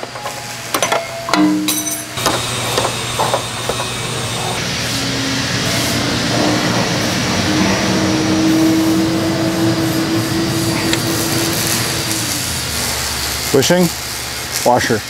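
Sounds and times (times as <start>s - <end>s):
motor humming: 0.0s - 14.6s.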